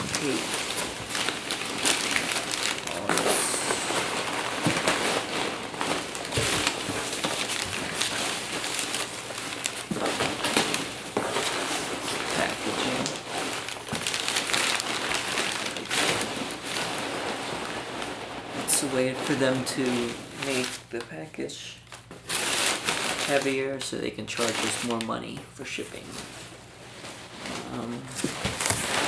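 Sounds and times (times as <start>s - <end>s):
packing material crinkling: 0.0s - 29.0s.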